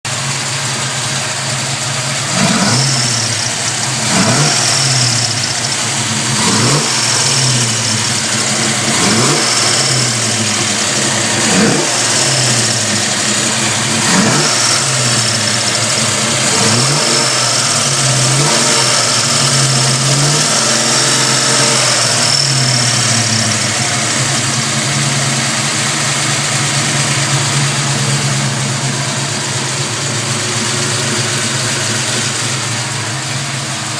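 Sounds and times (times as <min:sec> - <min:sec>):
engine throttle blips: 0:00.1 - 0:33.9.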